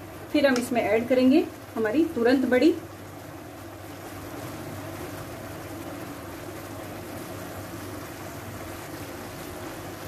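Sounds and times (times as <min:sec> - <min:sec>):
water bubbling and sizzling in pan: 0:00.0 - 0:10.0.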